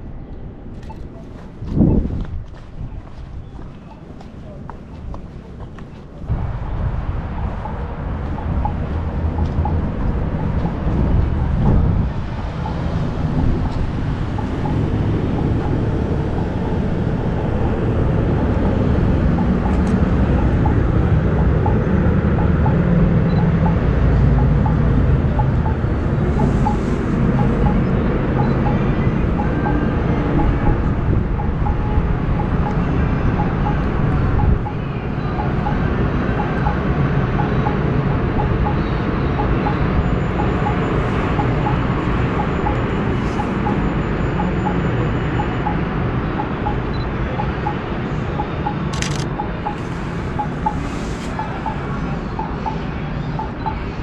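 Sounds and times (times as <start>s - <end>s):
distant traffic: 0.0s - 54.0s.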